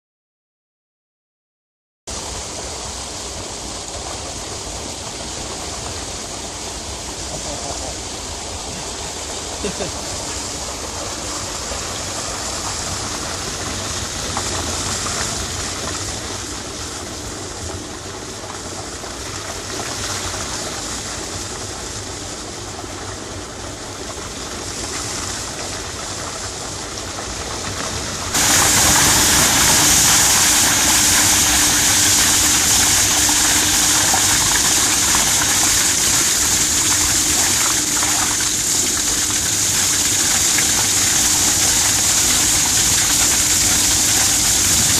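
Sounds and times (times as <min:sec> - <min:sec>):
machine noise: 0:02.1 - 0:44.9
steady hum: 0:02.1 - 0:44.9
water gushing onto mesh belt: 0:02.4 - 0:44.9.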